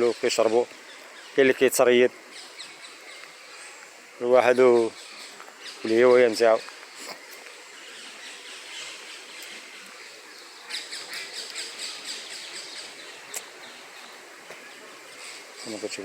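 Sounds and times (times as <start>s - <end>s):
birds chirping: 0.0s - 16.0s
faint outdoor background noise: 0.0s - 16.0s.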